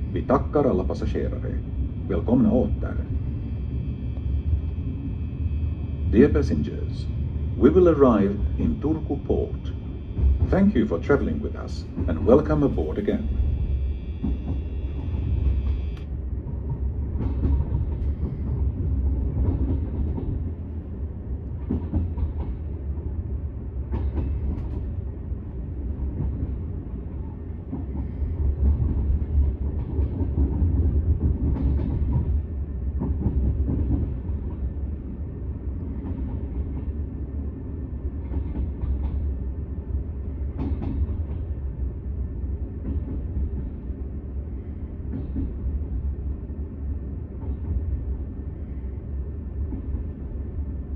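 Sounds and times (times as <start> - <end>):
train low rumble: 0.0 - 50.9.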